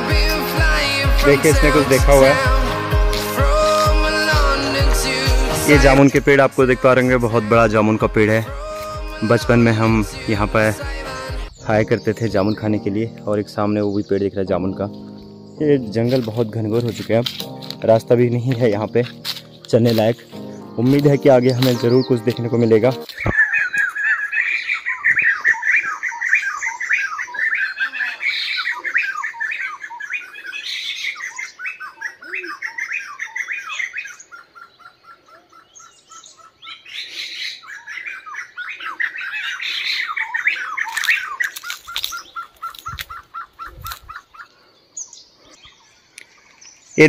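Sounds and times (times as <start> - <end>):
birds squawking and chattering: 0.0 - 47.0
rapid evenly spaced bird notes: 0.0 - 47.0.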